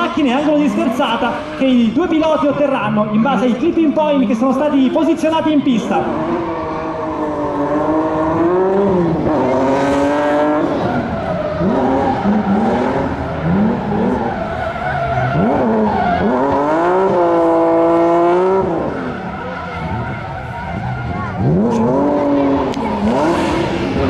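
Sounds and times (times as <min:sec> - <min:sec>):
car engines revving hard: 0:00.0 - 0:24.0
tyres skidding and squealing: 0:00.0 - 0:24.0.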